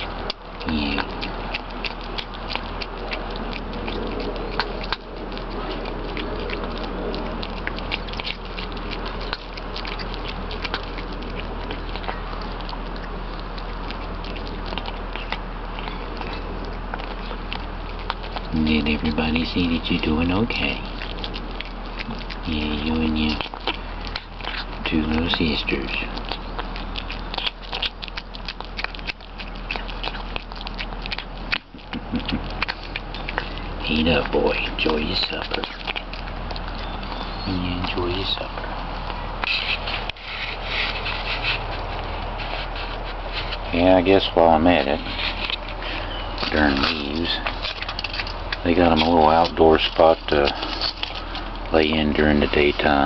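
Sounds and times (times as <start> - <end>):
kitten chewing and lapping: 0.0 - 53.0.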